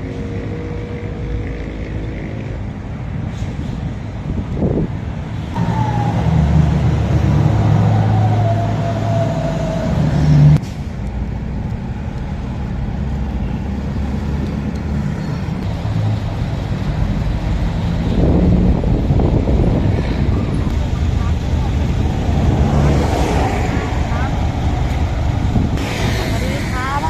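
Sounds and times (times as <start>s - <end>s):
traffic hum: 0.0s - 27.0s.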